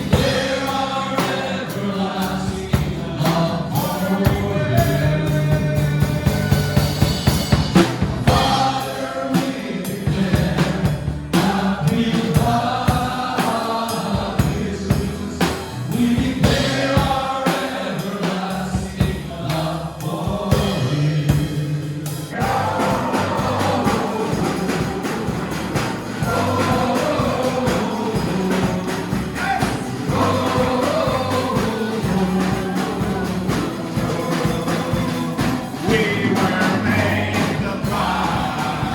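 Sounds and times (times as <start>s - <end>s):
band with drum kit: 0.0s - 38.9s
group of voices singing: 0.0s - 38.9s.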